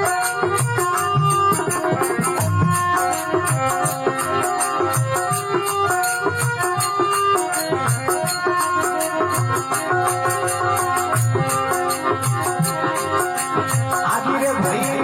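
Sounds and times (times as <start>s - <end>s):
folk melody in held notes: 0.0s - 15.0s
high percussion beat: 0.0s - 15.0s.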